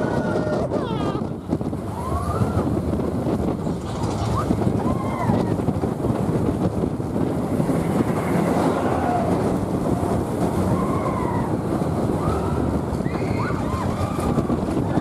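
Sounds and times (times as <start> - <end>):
roller coaster rumbling on track: 0.0 - 15.0
wind buffeting microphone: 0.0 - 15.0.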